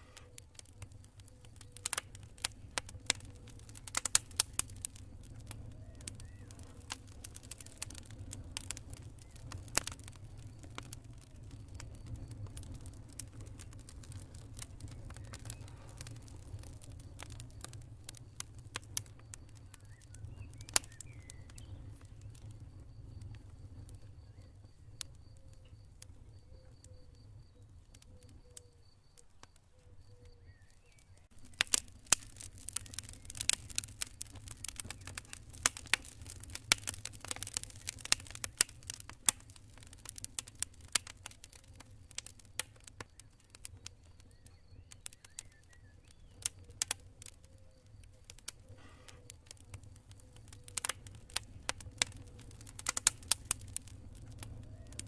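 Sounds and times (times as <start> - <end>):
campfire crackling and popping: 0.0 - 55.0
faint crickets chirping: 0.0 - 55.0.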